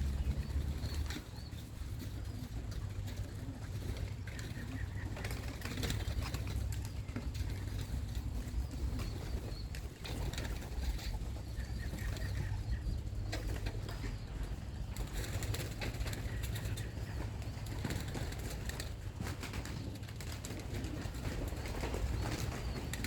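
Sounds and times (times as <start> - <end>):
pigeons cooing: 0.0 - 23.0
wings flapping and clattering: 0.0 - 23.0.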